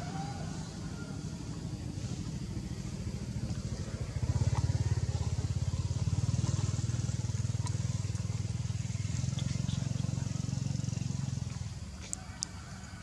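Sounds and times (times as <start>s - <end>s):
engine running with fast pulse: 0.0s - 13.0s.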